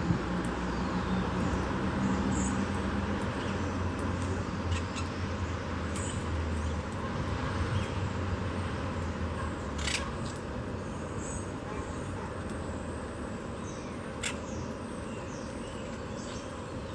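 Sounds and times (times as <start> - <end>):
distant road traffic: 0.0 - 16.9.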